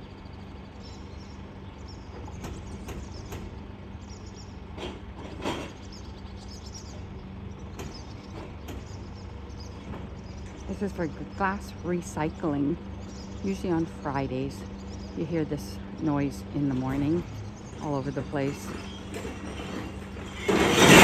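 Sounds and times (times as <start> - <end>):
truck idling: 0.0 - 21.0
wheelie bins rolling: 0.8 - 21.0.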